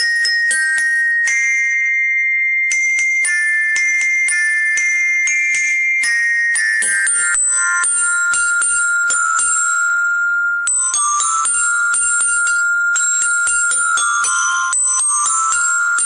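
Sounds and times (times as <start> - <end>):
glockenspiel tune: 0.0 - 16.0.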